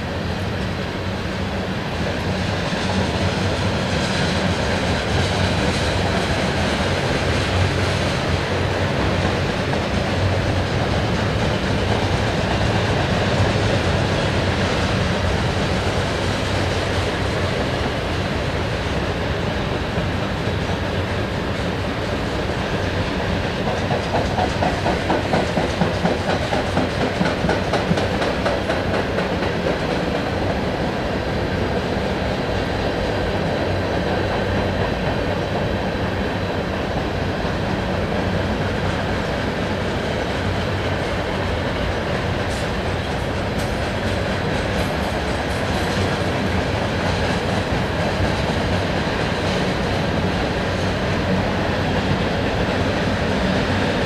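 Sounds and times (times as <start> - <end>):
freight train rumbling past: 0.0 - 54.0
wheels clacking over rail joints: 2.9 - 54.0.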